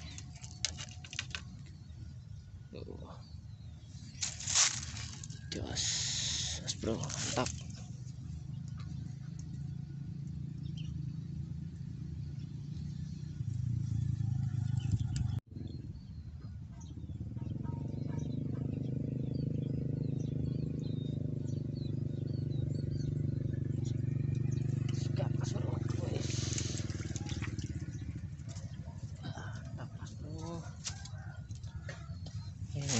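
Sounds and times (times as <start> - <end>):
low motor hum: 0.0 - 32.9
small birds chirping: 0.0 - 32.9.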